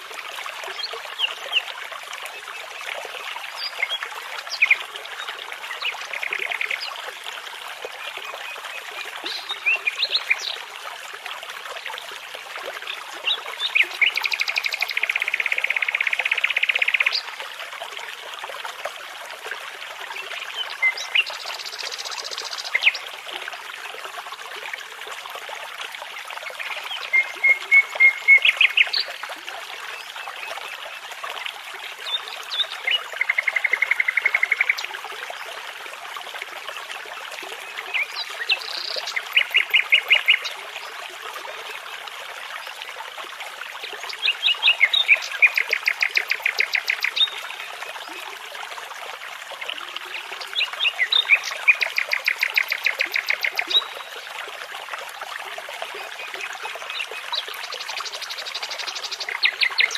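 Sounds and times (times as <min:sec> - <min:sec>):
babbling brook: 0:00.0 - 0:59.9.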